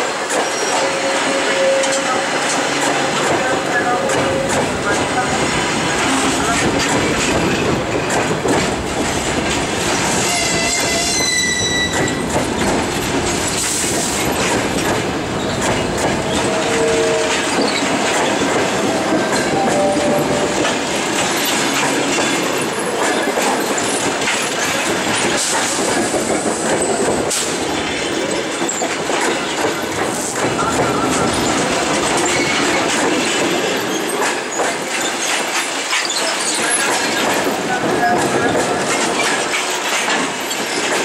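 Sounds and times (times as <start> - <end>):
train wheels clattering over rails: 0.0 - 19.6, 20.8 - 41.0.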